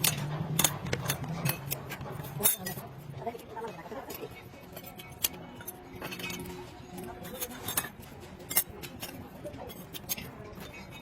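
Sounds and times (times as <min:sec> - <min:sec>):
metal tools clinking: 0:00.0 - 0:03.1, 0:03.7 - 0:11.0.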